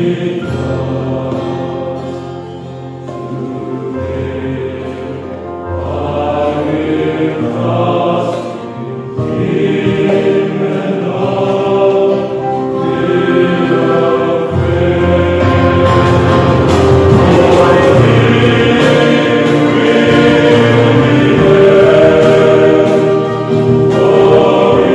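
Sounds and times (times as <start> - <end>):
electronic keyboard accompaniment: 0.0 - 24.9
male choir singing a hymn: 0.0 - 24.9.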